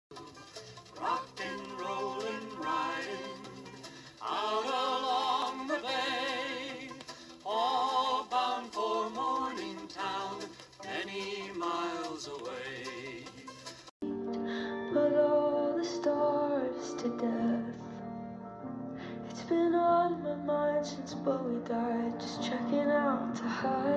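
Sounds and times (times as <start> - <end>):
song from record player: 0.1 - 23.9.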